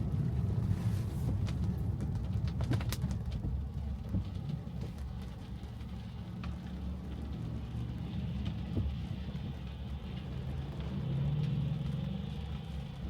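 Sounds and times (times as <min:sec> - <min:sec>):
tyre rumble on wet road: 0:00.0 - 0:13.0.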